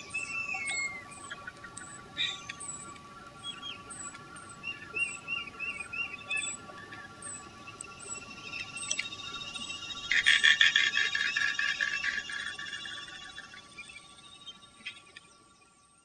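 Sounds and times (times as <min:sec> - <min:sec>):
small bird chirps: 0:00.0 - 0:15.7.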